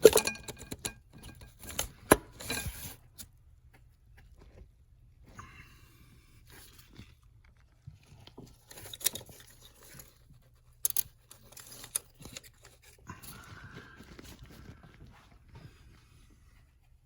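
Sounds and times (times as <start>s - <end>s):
rustling of hand work: 0.0s - 17.0s.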